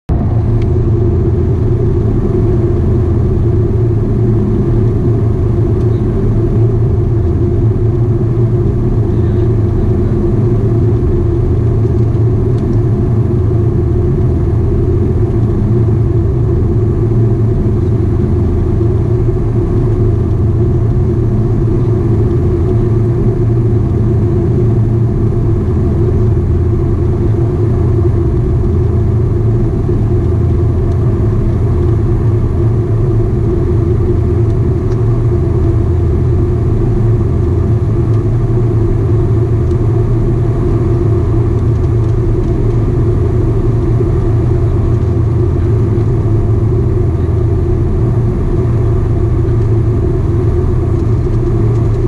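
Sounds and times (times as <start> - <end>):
turboprop engines droning in cabin: 0.0 - 52.0.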